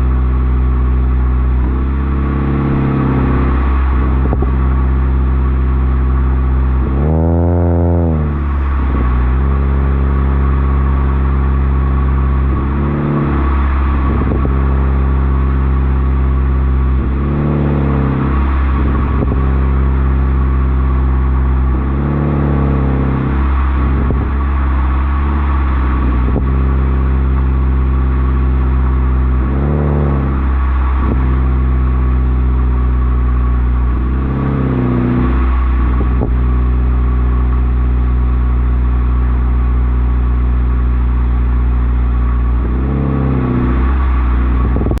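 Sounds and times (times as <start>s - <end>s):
car engine idling: 0.0s - 45.0s
engine revving blips: 0.0s - 45.0s
exhaust pop: 0.0s - 45.0s.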